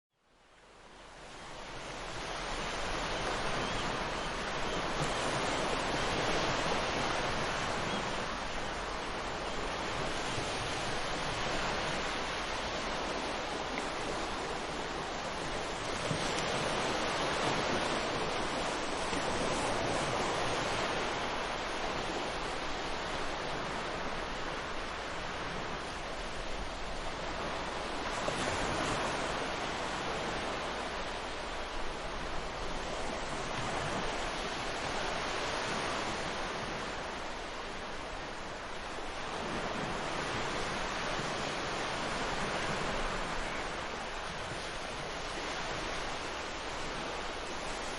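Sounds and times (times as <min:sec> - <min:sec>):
ocean waves breaking on shore: 0:00.4 - 0:47.9.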